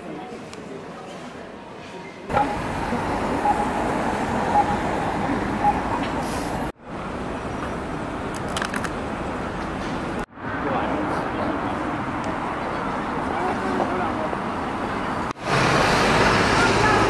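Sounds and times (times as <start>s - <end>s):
passing cars and buses: 0.0s - 17.0s.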